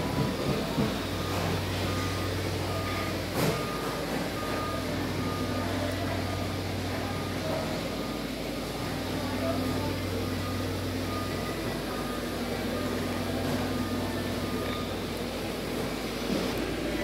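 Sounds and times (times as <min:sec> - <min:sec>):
blower fans humming: 0:00.0 - 0:17.0.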